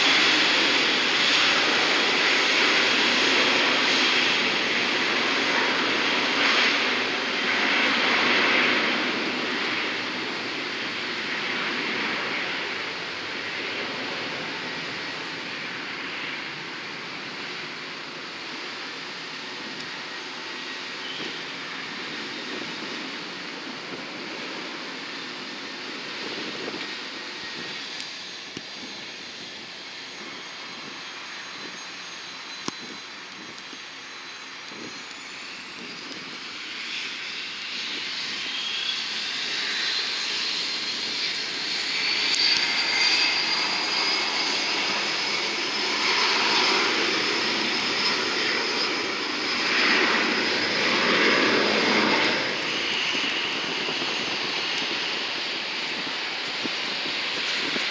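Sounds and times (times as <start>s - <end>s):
jet engines rushing: 0.0s - 57.9s.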